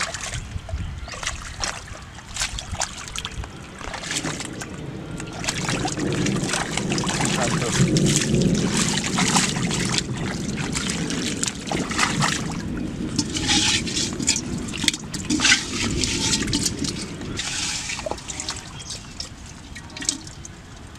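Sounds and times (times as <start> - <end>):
hands splashing in muddy water: 0.0 - 20.6.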